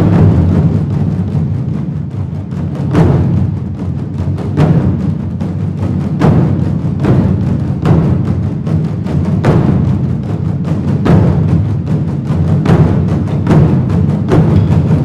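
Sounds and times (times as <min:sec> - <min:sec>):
ensemble of barrel drums: 0:00.0 - 0:15.0.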